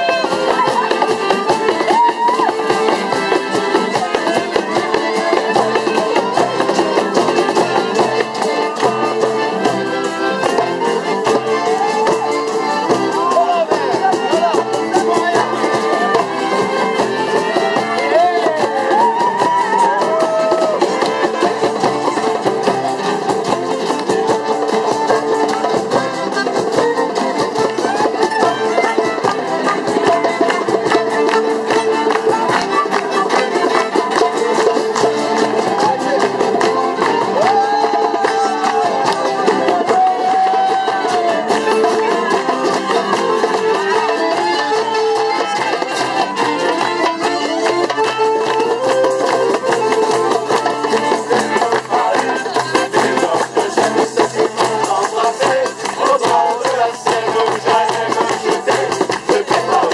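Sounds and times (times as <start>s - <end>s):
fiddle melody: 0.0s - 59.9s.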